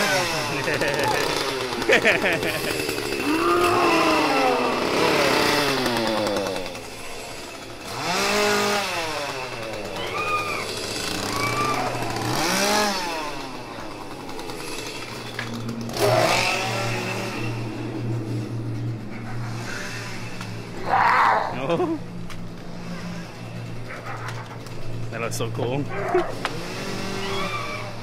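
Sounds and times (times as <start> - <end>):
chainsaw revving and idling: 0.0 - 21.0, 21.6 - 28.0.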